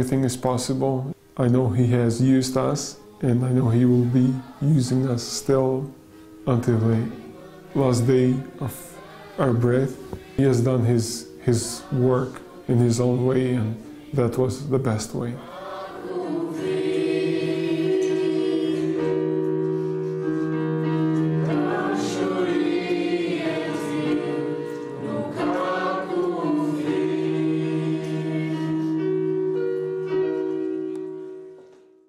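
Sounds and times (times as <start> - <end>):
choir singing: 0.1 - 31.4.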